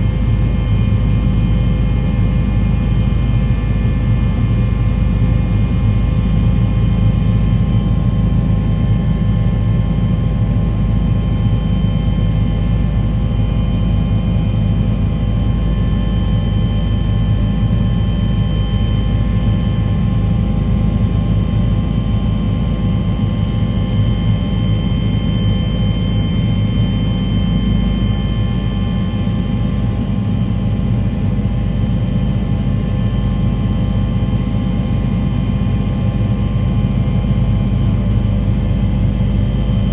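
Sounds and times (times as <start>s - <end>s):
engine drone with whining tones: 0.0s - 39.9s.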